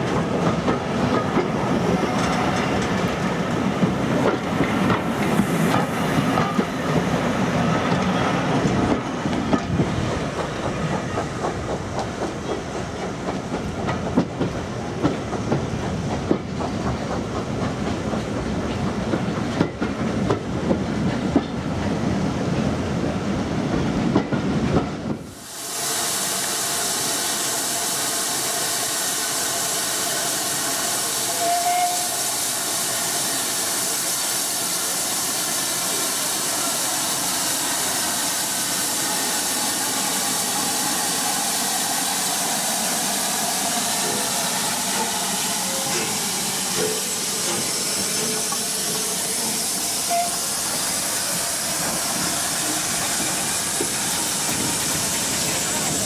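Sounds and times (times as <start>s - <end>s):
steam hissing from locomotive: 0.6s - 18.6s, 25.1s - 56.0s.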